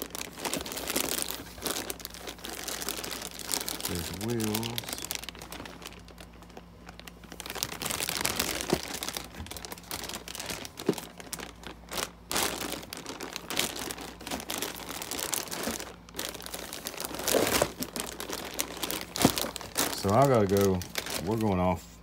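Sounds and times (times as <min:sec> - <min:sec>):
plastic bags crinkling: 0:00.0 - 0:21.8.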